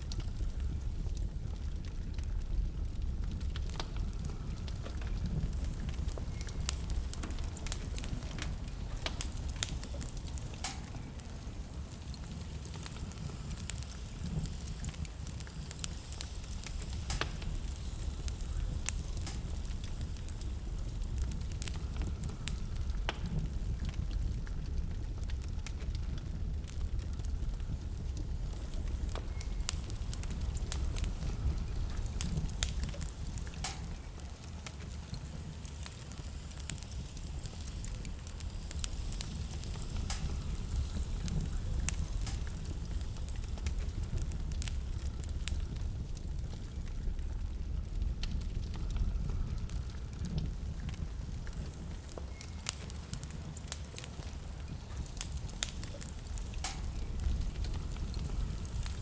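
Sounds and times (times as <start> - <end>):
fire burning in fireplace: 0.0 - 59.0
fire crackling and popping: 0.0 - 59.0.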